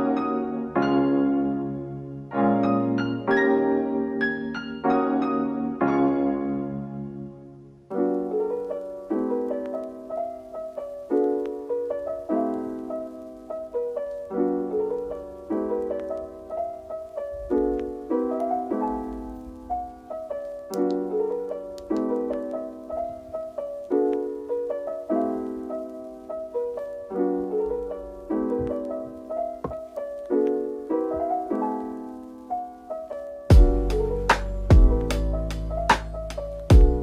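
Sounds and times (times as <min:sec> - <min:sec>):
soft piano music: 0:00.0 - 0:37.0.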